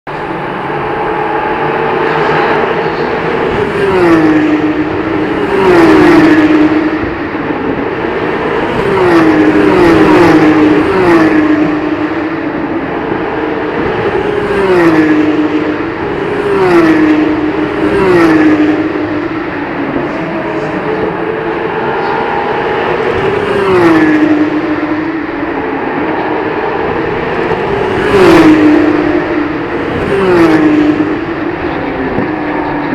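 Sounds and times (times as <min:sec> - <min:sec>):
race cars passing at speed: 0:00.1 - 0:32.9.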